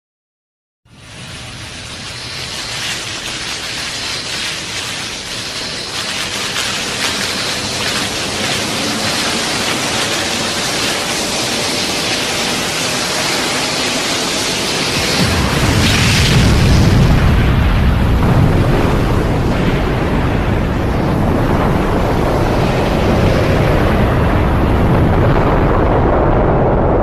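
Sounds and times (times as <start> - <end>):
low rumble: 0.9 - 27.0
steady rushing noise: 0.9 - 27.0.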